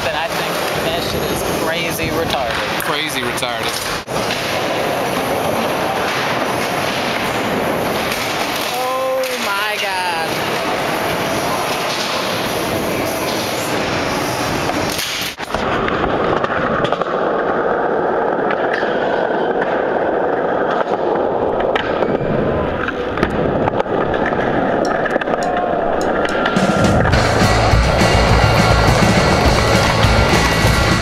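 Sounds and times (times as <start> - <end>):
skateboard clacks: 0.0 - 1.5, 2.2 - 31.0
skateboard wheels rolling on concrete: 0.0 - 31.0.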